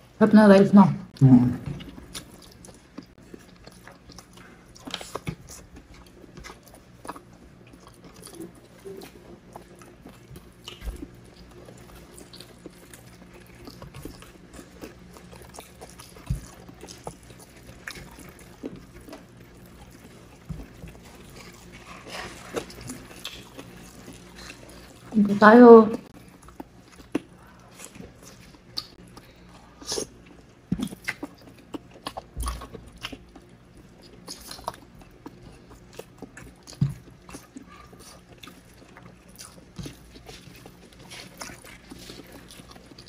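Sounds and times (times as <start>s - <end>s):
faint low hum: 0.0s - 43.0s
chewing: 1.6s - 25.2s, 26.0s - 43.0s.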